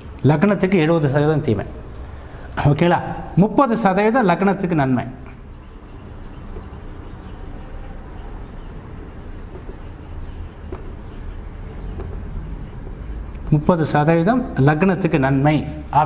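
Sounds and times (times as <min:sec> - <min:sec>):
low hum of room noise: 0:00.0 - 0:16.0
marker pen writing on whiteboard: 0:02.8 - 0:15.9.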